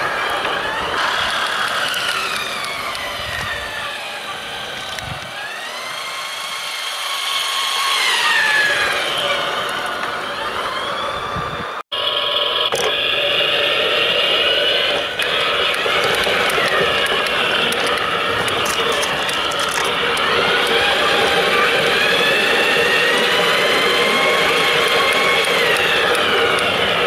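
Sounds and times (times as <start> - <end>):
toy train motor whining: 0.0 - 11.4, 12.0 - 27.0.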